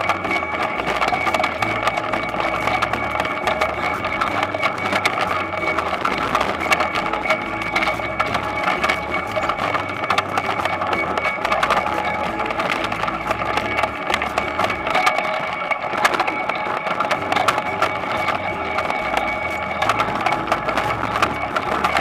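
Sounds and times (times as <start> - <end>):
harvester rattling clatter: 0.0 - 22.0
thin steady whine: 0.0 - 22.0.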